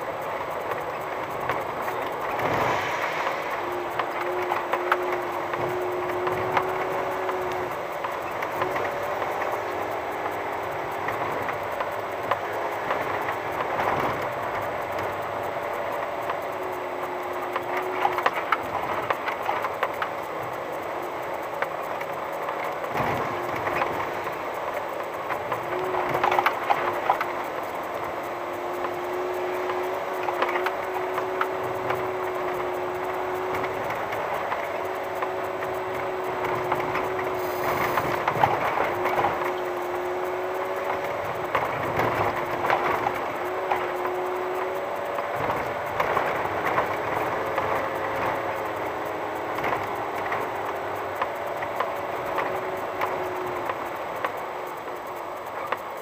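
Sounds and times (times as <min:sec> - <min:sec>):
rattles and knocks from bumps: 0:00.0 - 0:56.0
tyres rolling on gravel: 0:00.0 - 0:56.0
van engine hum: 0:00.0 - 0:56.0.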